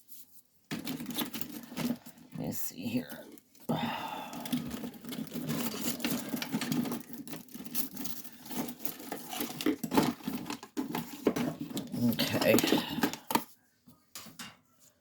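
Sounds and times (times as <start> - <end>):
small hard objects rattling: 0.7 - 13.5.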